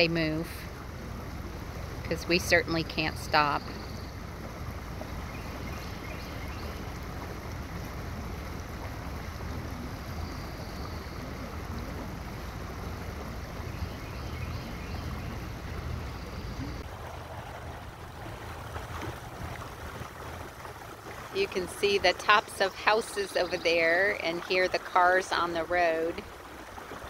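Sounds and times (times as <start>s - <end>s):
boat engine drone: 0.0s - 27.0s
water rushing: 0.0s - 27.0s.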